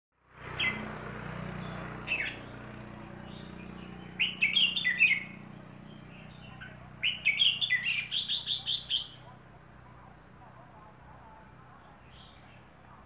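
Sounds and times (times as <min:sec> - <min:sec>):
steady low hum: 0:00.4 - 0:13.0
songbird singing: 0:00.5 - 0:13.0.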